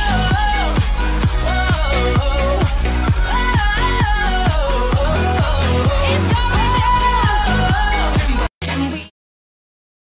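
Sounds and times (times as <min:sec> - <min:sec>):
electronic dance music: 0:00.0 - 0:09.1.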